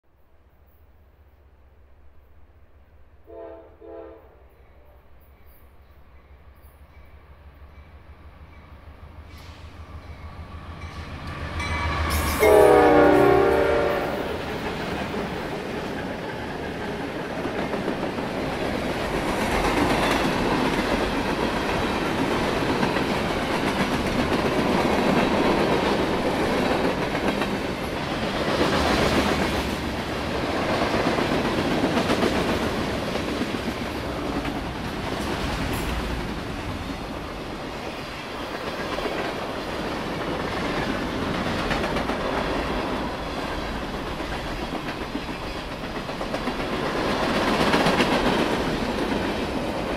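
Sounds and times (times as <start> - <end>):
freight train rumble: 1.8 - 49.9
train wheels clacking on rails: 6.9 - 49.9.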